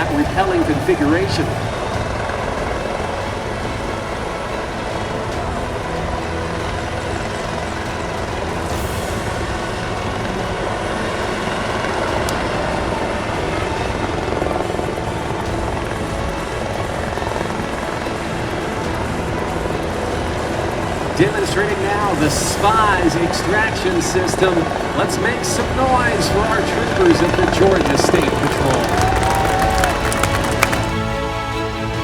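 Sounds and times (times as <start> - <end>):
helicopter hovering: 0.0 - 31.3.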